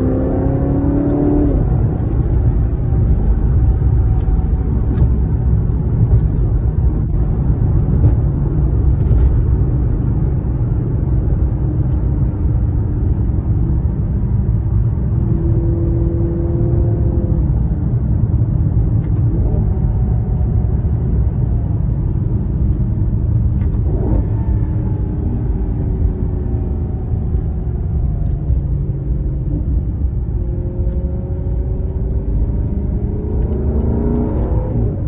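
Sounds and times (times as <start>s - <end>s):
car engine and exhaust rumble: 0.0s - 35.0s.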